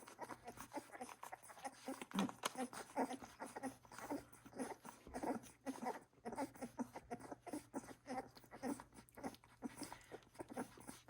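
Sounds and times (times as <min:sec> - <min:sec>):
puppies squeaking and grunting: 0:00.0 - 0:11.0.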